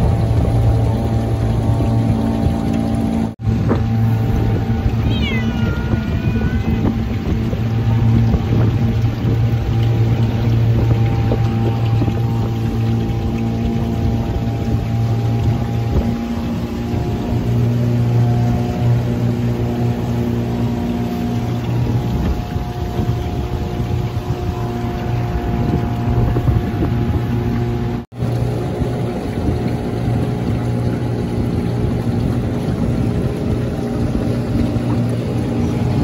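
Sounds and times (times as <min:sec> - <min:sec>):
outboard motor running: 0:00.0 - 0:36.0
water noise: 0:00.0 - 0:36.0
wind noise: 0:00.0 - 0:36.0.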